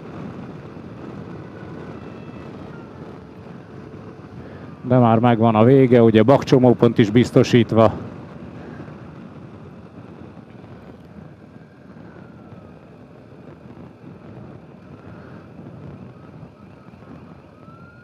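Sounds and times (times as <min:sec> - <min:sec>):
muffled motorcycle engine rumble: 0:00.0 - 0:18.0
wind rushing: 0:00.0 - 0:18.0.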